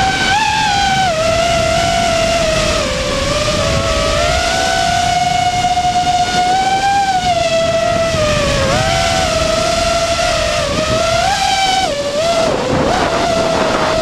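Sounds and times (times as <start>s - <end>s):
drone motors whining: 0.0s - 14.0s
wind over microphone: 0.0s - 14.0s.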